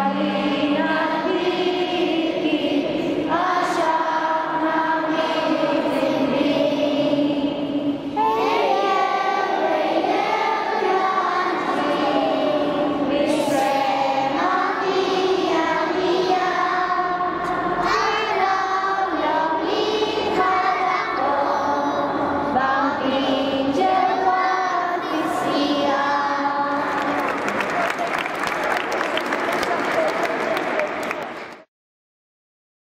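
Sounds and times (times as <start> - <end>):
children singing in chorus: 0.0 - 27.5.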